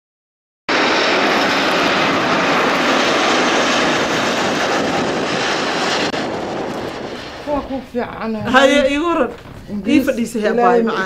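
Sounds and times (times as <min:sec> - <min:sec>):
jet engines roaring: 0:00.7 - 0:11.0.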